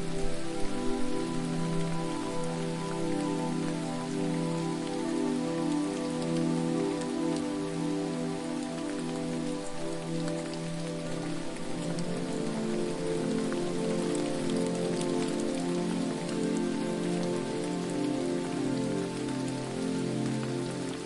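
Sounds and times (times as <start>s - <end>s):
waterfall splashing: 0.0s - 21.0s.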